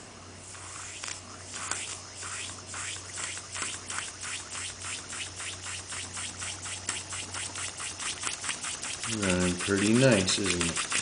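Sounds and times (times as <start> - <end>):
toy steam engine exhaust puffing: 0.5 - 11.0.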